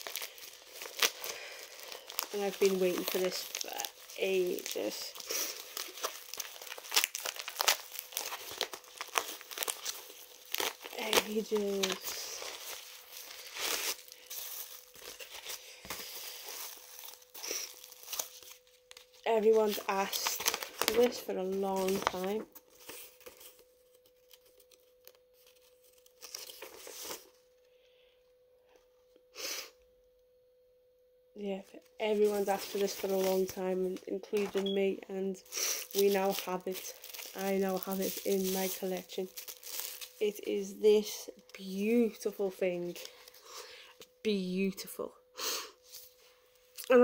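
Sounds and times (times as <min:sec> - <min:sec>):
plastic mailer crinkling: 0:00.0 - 0:27.4, 0:32.0 - 0:34.9, 0:35.7 - 0:43.4
faint steady hum: 0:00.0 - 0:47.0.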